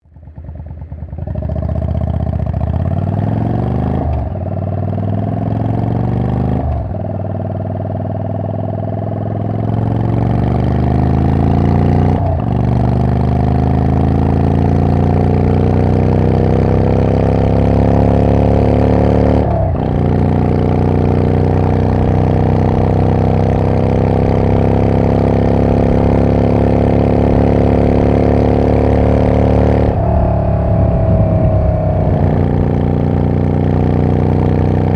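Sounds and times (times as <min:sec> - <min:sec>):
motorcycle accelerating with loud exhaust: 0:00.1 - 0:34.9.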